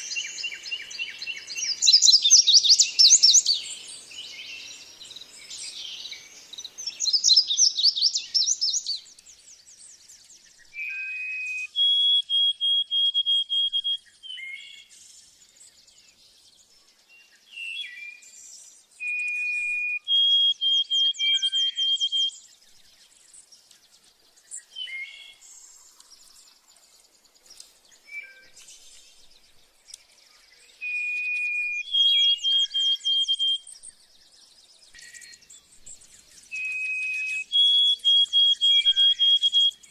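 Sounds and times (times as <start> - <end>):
soft bird chirps: 0.0 - 39.9
songbird singing trill: 0.0 - 39.9.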